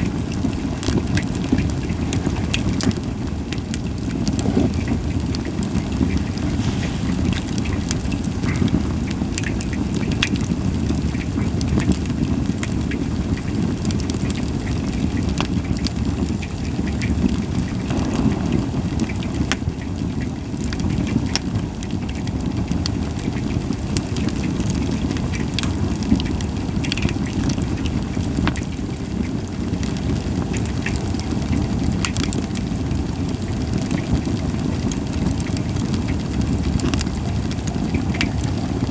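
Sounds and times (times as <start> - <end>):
fire crackles and pops: 0.0 - 38.9
firewood flames rushing: 0.0 - 38.9.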